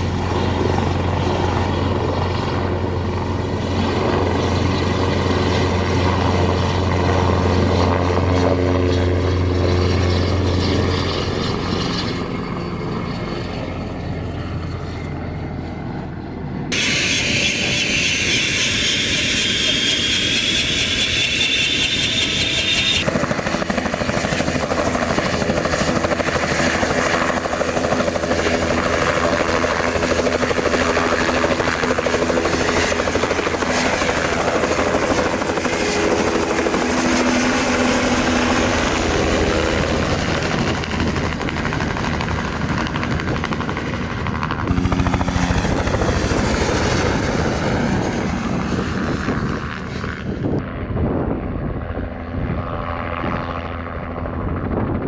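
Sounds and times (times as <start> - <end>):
high turbine whine: 0.0 - 50.8
helicopter flying past: 0.0 - 55.0
helicopter rotor beating: 0.0 - 55.0.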